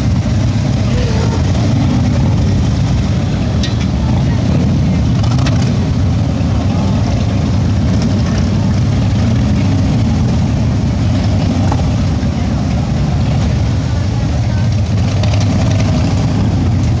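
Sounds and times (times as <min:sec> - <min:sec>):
motorcycle engines rumbling: 0:00.0 - 0:17.0.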